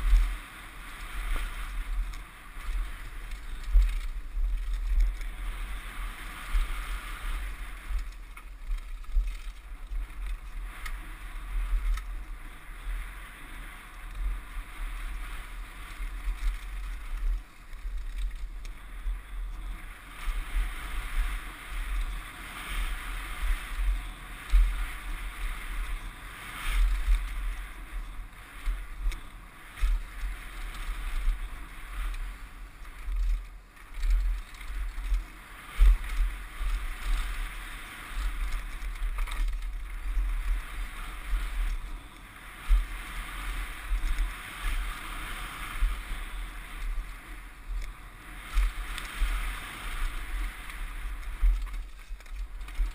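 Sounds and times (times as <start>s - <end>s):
bike rattling over bumps: 0.0s - 52.9s
wind buffeting microphone: 0.0s - 52.9s.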